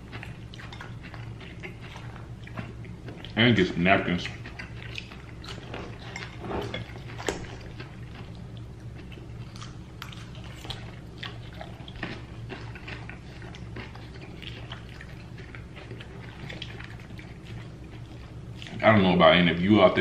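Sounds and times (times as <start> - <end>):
chewing and crunching salad: 0.0 - 20.0
steady low hum: 0.0 - 20.0.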